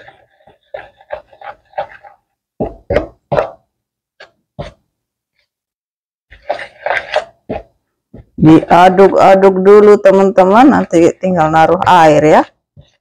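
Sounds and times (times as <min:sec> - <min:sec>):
spoon scraping plastic bowl: 0:00.0 - 0:05.5, 0:06.3 - 0:13.0.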